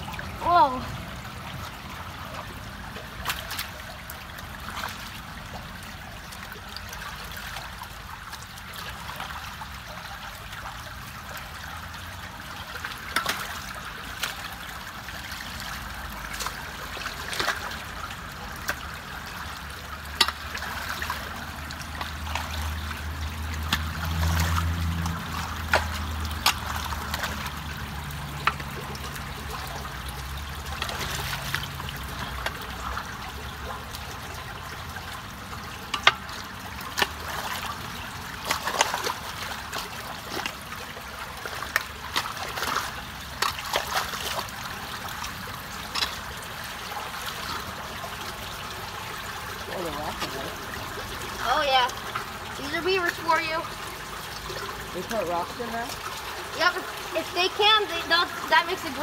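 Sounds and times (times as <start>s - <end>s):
small splashes: 0.0s - 59.0s
water trickling: 0.0s - 59.0s.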